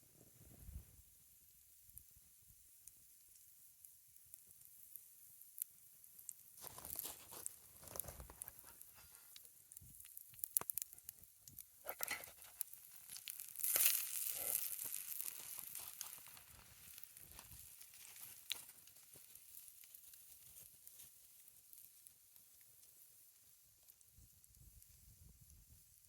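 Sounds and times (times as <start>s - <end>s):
campfire crackles and pops: 0.2s - 26.0s
food sizzling in a skillet: 1.5s - 26.0s.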